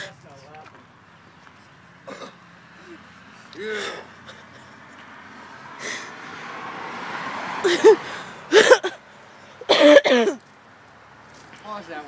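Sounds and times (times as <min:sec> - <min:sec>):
car passing: 0:00.0 - 0:12.0.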